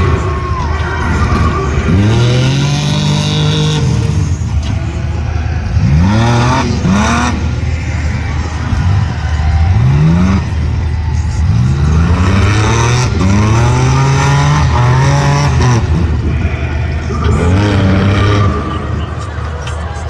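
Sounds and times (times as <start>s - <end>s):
race engines revving: 0.0s - 20.0s.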